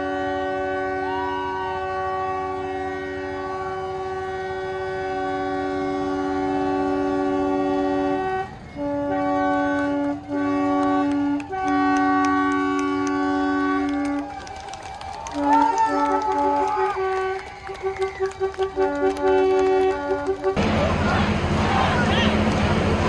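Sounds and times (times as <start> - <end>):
locomotive horn blasts: 0.0 - 23.0.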